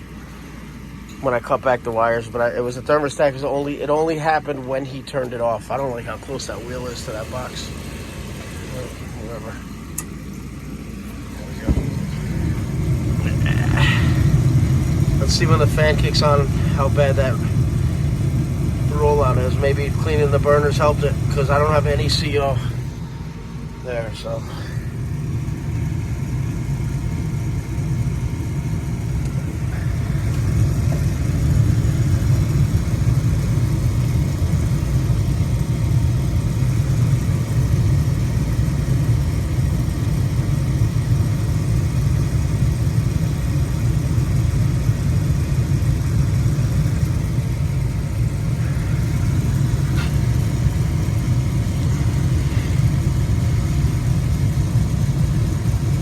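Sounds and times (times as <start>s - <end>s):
furnace burners rumbling: 0.0s - 56.0s.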